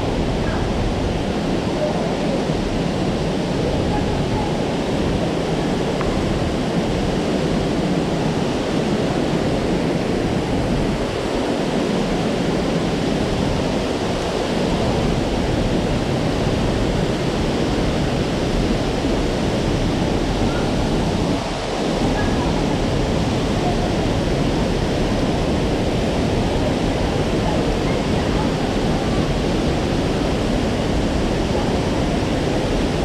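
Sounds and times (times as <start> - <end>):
stream flowing: 0.0 - 33.0
waterfall rushing: 0.0 - 33.0.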